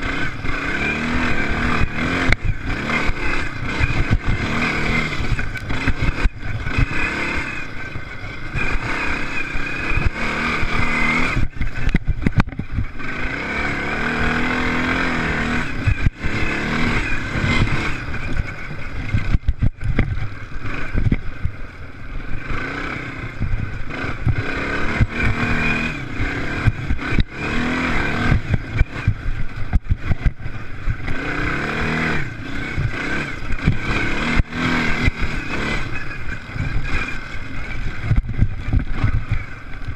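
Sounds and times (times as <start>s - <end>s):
racing engines revving hard: 0.0s - 21.1s, 22.3s - 39.8s.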